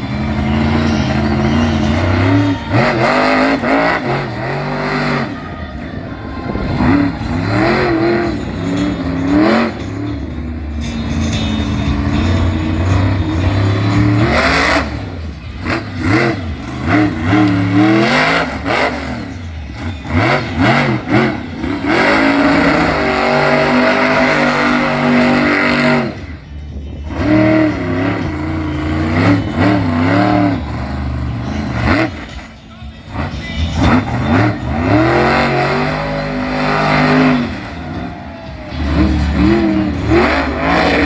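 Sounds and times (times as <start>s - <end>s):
monster truck engine revving: 0.0s - 41.0s.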